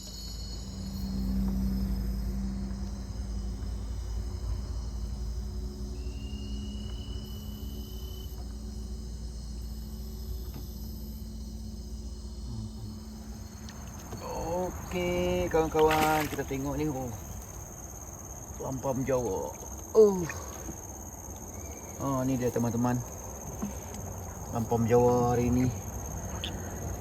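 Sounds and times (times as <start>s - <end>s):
insects chirring: 0.0s - 27.0s
low rumble and hum: 0.0s - 27.0s.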